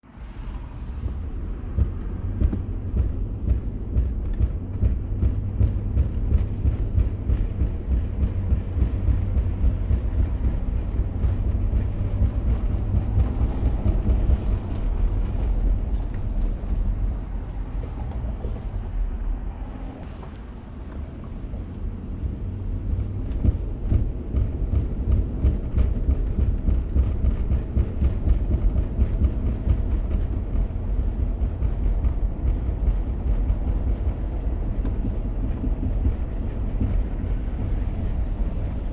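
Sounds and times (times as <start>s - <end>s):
vehicle low rumble: 0.0s - 38.9s
drivetrain thumping: 1.2s - 38.9s.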